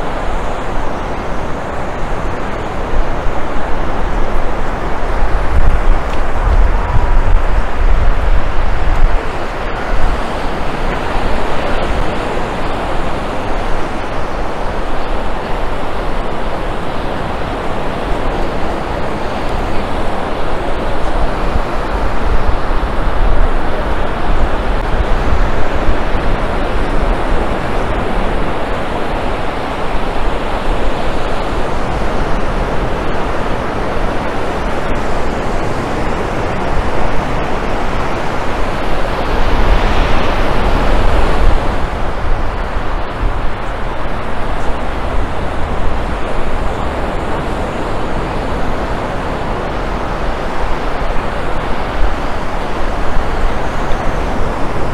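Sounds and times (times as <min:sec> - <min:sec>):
breaking surf: 0:00.0 - 0:54.9
road traffic: 0:00.0 - 0:54.9
wind buffeting microphone: 0:00.0 - 0:54.9.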